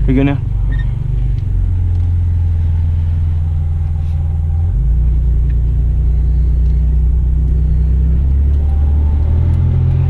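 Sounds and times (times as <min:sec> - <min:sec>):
car engine rumbling inside cabin: 0:00.0 - 0:10.0.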